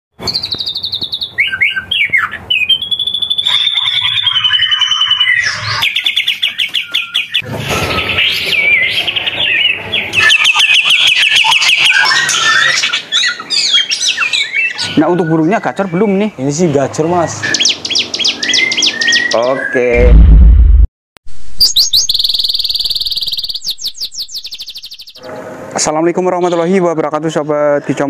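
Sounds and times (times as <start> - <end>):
songbirds singing: 0.2 - 20.0, 21.6 - 25.5.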